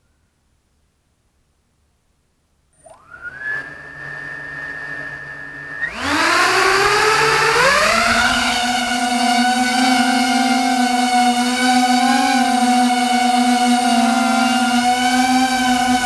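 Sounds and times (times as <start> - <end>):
quadcopter motors whining: 2.8 - 16.0.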